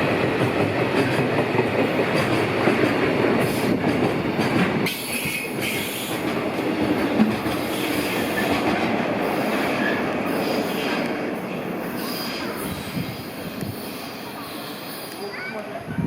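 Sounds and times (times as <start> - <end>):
train wagons rumbling on rails: 0.0 - 16.0.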